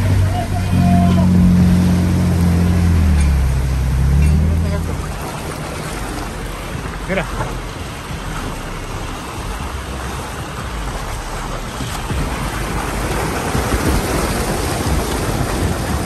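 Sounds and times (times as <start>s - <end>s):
river rushing: 0.0s - 16.0s
wind buffeting microphone: 0.0s - 16.0s.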